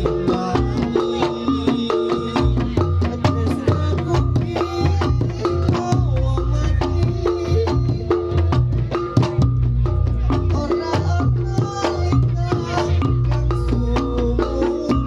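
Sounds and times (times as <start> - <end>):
gamelan drums and gongs: 0.0 - 15.0.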